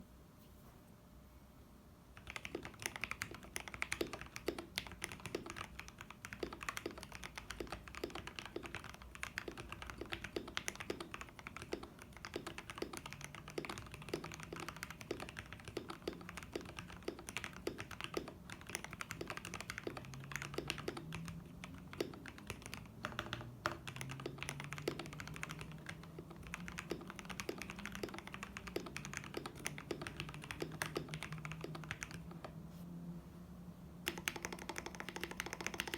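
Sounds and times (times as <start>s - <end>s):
mechanical keyboard typing: 2.2s - 32.6s, 34.1s - 35.9s.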